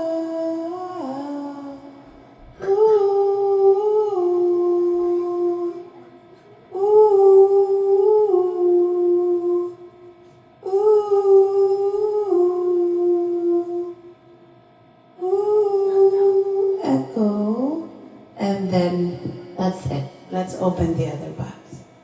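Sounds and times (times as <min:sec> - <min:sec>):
woman singing with echo: 0:00.0 - 0:14.4, 0:15.2 - 0:22.0.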